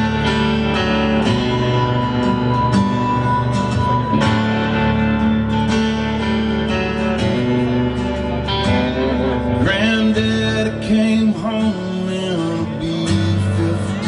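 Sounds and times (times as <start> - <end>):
strummed guitar chords: 0.0 - 14.0.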